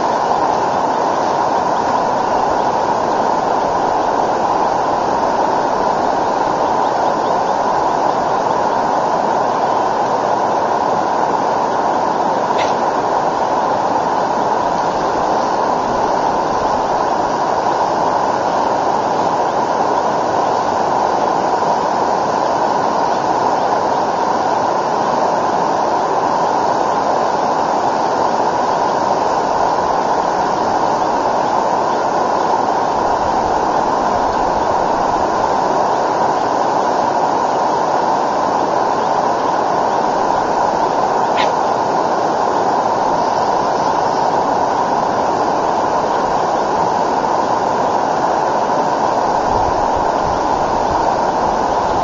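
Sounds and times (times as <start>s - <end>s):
fast river rushing: 0.0s - 52.0s.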